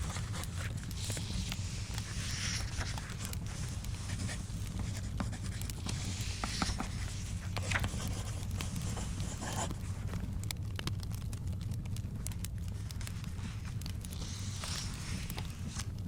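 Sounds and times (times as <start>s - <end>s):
book page turning: 0.0s - 10.0s, 12.8s - 15.9s
wood fire crackling: 0.0s - 16.0s.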